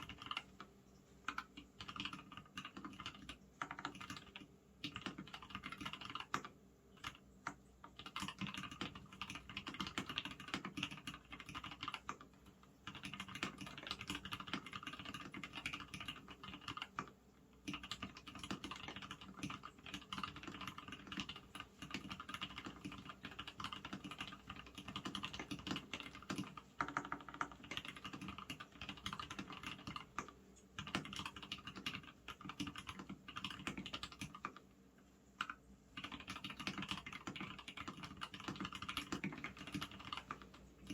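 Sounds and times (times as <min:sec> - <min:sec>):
fast mechanical keyboard typing: 0:00.0 - 0:34.7, 0:35.4 - 0:40.9.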